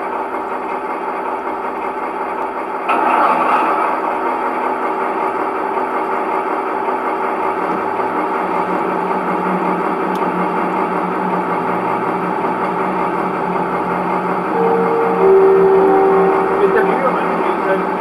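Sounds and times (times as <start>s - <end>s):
diesel engine idling from loudspeaker: 0.0s - 18.0s.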